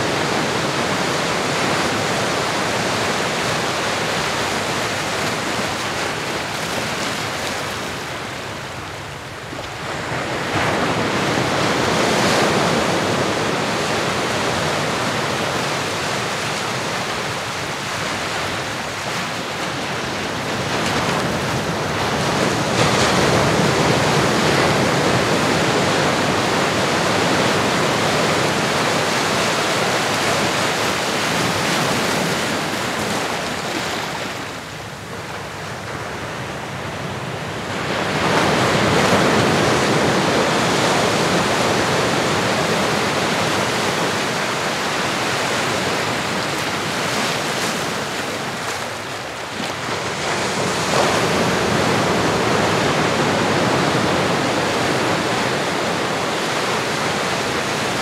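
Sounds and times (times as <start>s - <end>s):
ocean waves breaking ashore: 0.0s - 58.0s.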